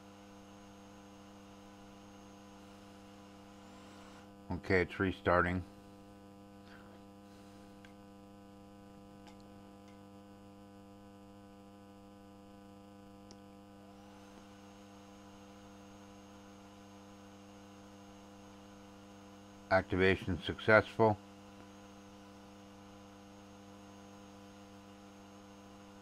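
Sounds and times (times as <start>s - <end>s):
electrical mains hum: 0.0s - 26.0s
faint high whine: 0.0s - 26.0s.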